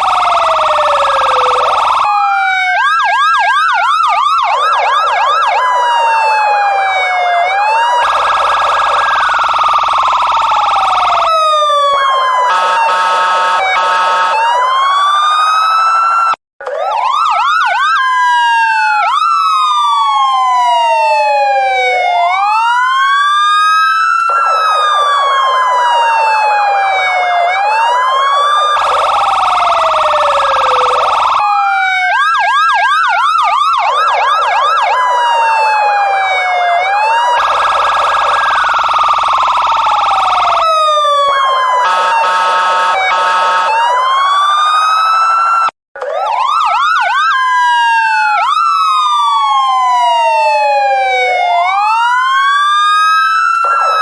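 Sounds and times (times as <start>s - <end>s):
police siren wailing and yelping: 0.0s - 54.0s.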